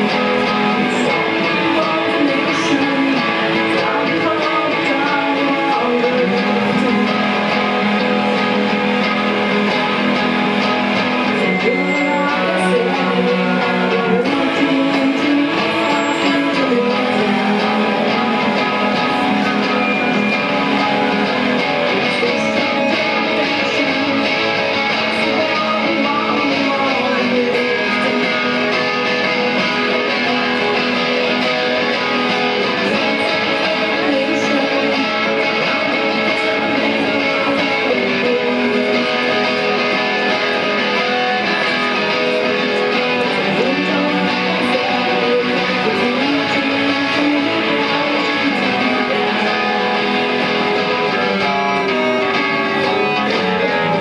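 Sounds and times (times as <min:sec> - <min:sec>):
live band playing: 0:00.0 - 0:54.0
strummed guitars: 0:00.0 - 0:54.0.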